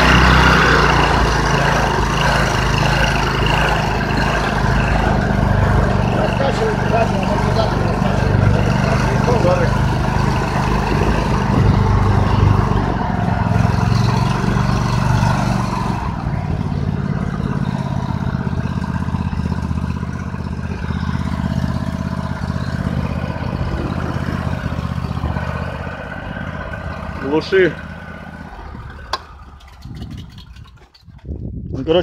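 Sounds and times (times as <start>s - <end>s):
petrol engine running: 0.0s - 31.0s.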